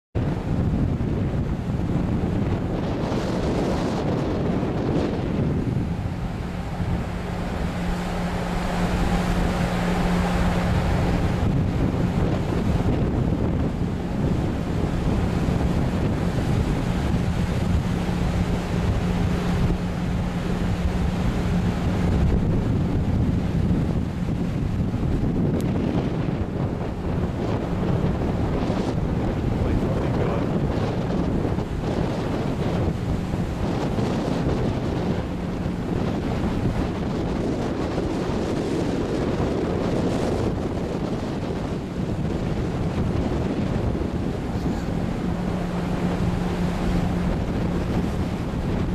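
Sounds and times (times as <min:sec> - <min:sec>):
sea surf rumbling: 0:00.2 - 0:48.9
steady low hum: 0:00.2 - 0:48.9
wind buffeting microphone: 0:00.2 - 0:48.9.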